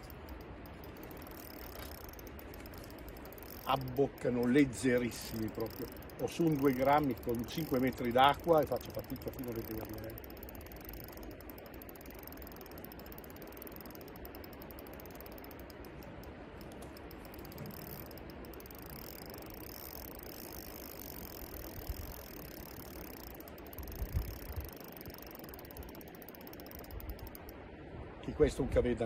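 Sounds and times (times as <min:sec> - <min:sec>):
fishing reel clicking: 0:00.0 - 0:27.6.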